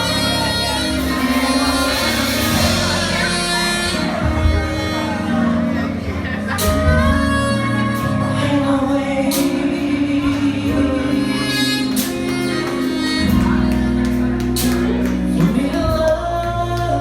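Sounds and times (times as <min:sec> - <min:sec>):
live band playing: 0:00.0 - 0:17.0
person singing: 0:00.0 - 0:17.0
steady bass notes: 0:00.0 - 0:17.0.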